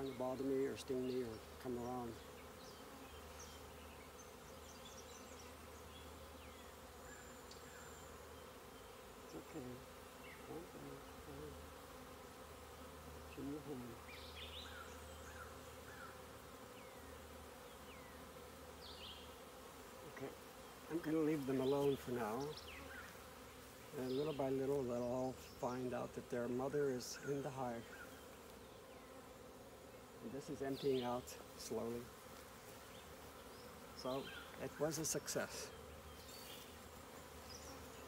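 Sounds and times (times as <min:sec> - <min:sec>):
bee swarm humming: 0:00.0 - 0:38.0.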